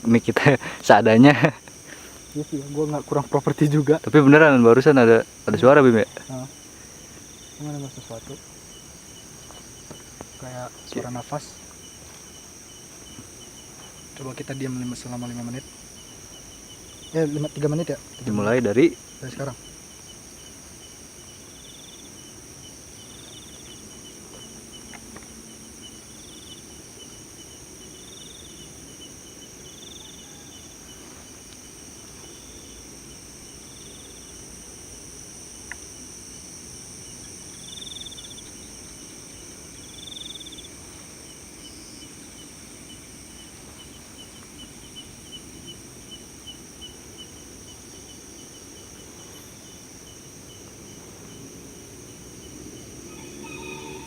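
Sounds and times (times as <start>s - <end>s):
insect chirping in pulses: 0.0s - 54.0s
insects trilling: 0.0s - 54.0s
low hiss: 0.0s - 54.0s.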